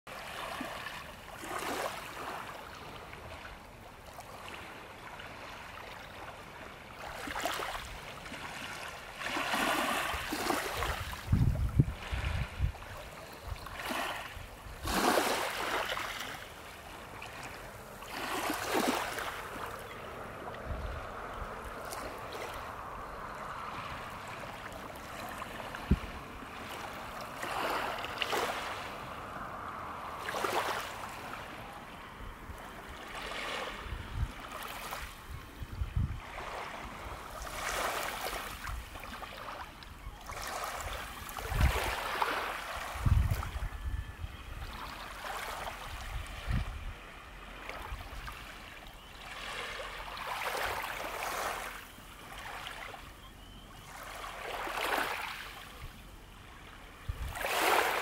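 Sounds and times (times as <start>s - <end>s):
waves lapping on shore: 0.1s - 58.0s.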